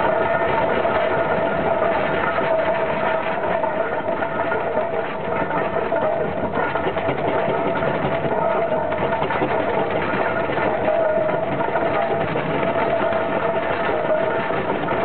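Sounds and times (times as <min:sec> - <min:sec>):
steady whine: 0:00.0 - 0:15.0
steam engine mechanical clatter: 0:00.0 - 0:15.0.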